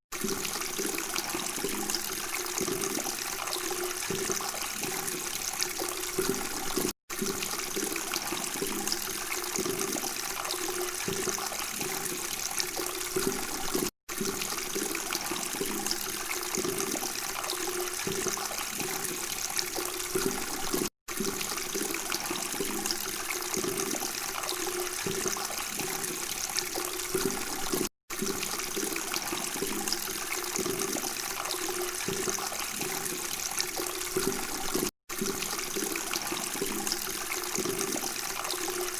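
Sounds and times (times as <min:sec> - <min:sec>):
water flowing and babbling: 0:00.1 - 0:38.9.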